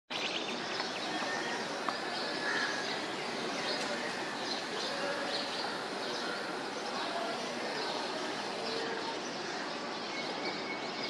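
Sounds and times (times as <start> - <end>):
outdoor background noise: 0.1 - 11.0
small birds chirping: 0.1 - 11.0.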